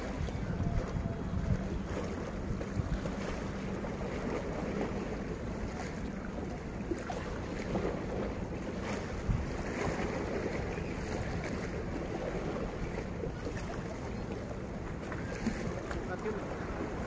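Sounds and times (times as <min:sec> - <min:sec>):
sea waves against rocks: 0:00.0 - 0:17.0
wind rumbling on microphone: 0:00.0 - 0:17.0.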